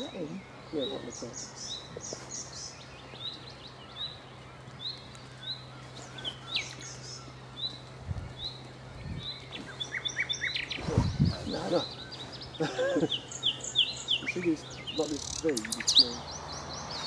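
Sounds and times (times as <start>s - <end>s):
nightingale singing: 0.0s - 17.0s.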